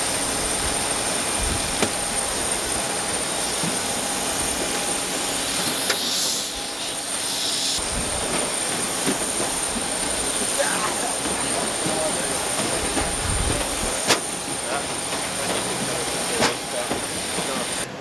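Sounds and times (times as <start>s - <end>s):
jet turbine whine: 0.0s - 18.0s.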